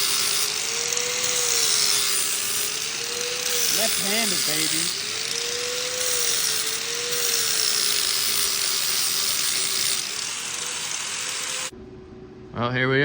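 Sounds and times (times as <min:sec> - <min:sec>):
angle grinder grinding metal: 0:00.0 - 0:11.7.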